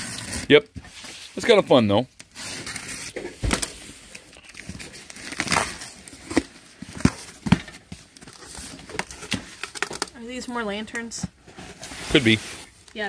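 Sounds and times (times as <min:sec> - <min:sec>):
cardboard and tape crackling: 0:02.2 - 0:13.0.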